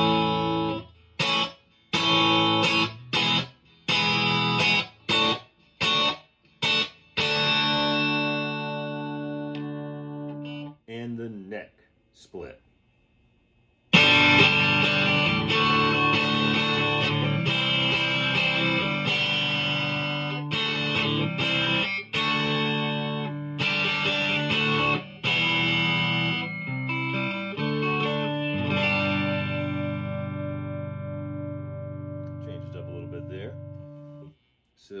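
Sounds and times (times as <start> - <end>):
clean electric guitar playing: 0.0 - 10.8, 13.9 - 34.4.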